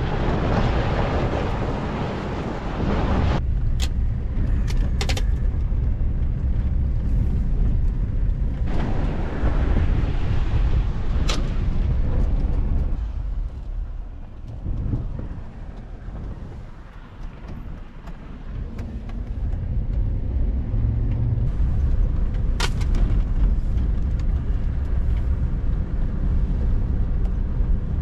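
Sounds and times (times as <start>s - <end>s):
truck engine and tyres rumbling: 0.0s - 28.0s.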